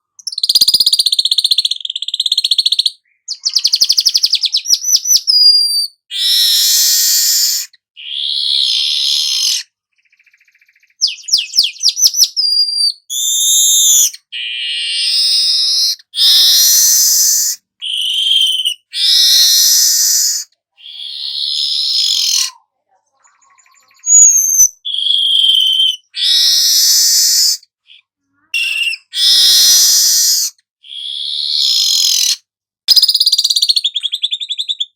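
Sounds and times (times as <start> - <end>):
bird singing buzzy phrases: 2.7 - 34.9.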